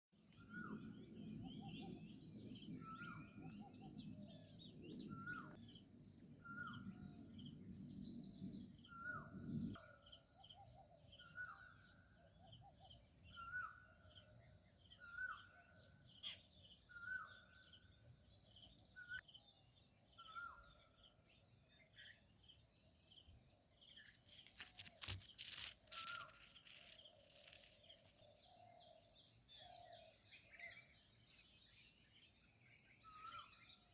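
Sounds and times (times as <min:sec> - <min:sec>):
forest birds calling: 0:00.3 - 0:33.9.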